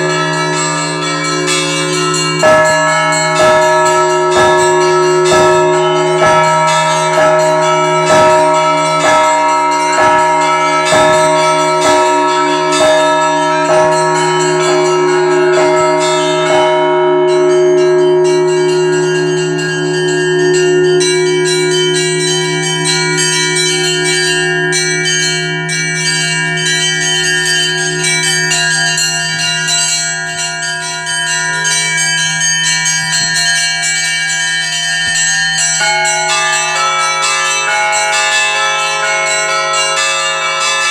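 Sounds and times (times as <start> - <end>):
small church bells ringing: 0.0 - 40.9.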